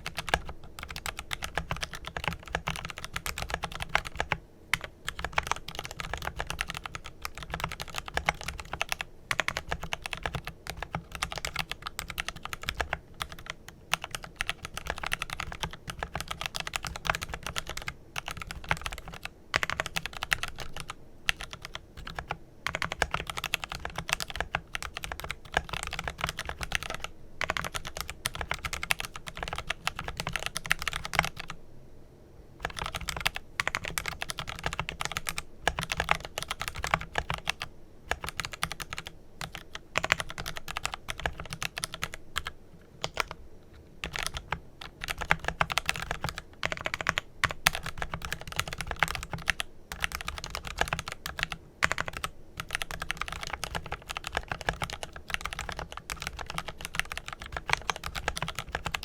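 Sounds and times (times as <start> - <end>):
fast mechanical keyboard typing: 0.0 - 31.6, 32.6 - 59.0.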